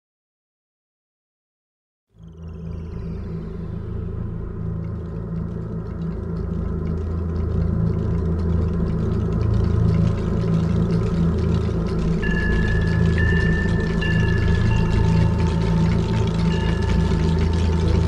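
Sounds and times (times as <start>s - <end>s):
deep ambient rumbling drone: 2.1s - 18.0s.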